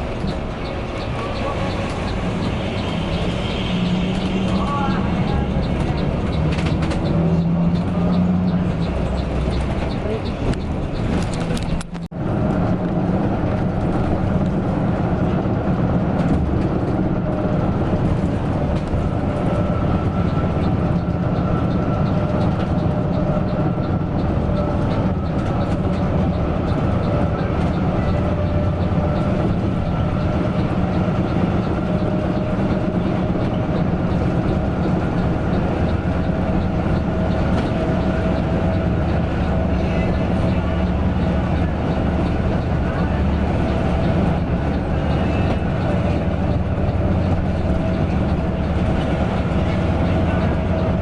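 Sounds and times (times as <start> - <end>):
bus engine and road noise: 0.0 - 51.0.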